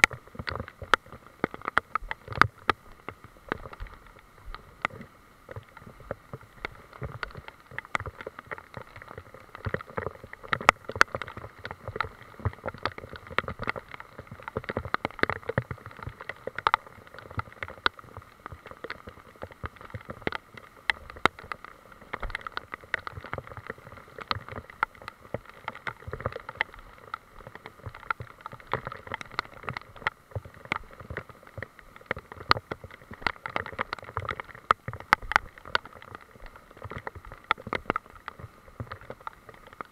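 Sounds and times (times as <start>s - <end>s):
sharp raindrop taps: 0.0s - 39.9s
steady rain hiss: 0.0s - 39.9s.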